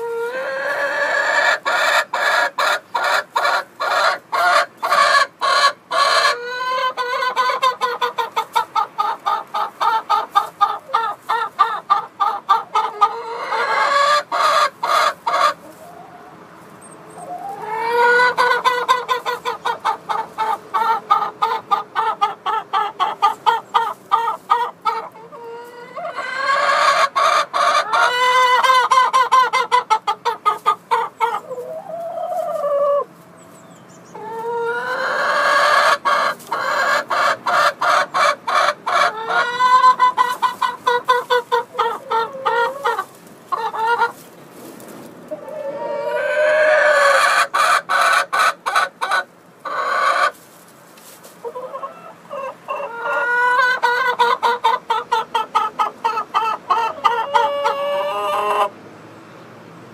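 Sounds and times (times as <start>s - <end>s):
hens cackling: 0.0s - 58.8s.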